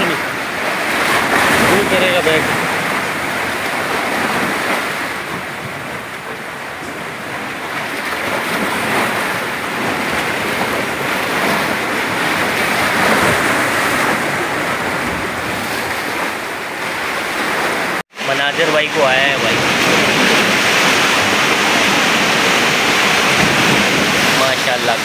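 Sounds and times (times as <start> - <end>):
surf breaking against rocks: 0.0 - 25.0.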